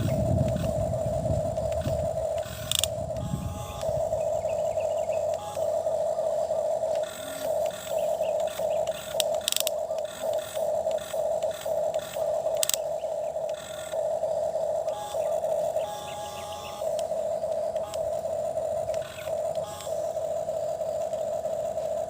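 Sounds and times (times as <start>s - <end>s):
toy motor and gears whirring: 0.0s - 22.0s.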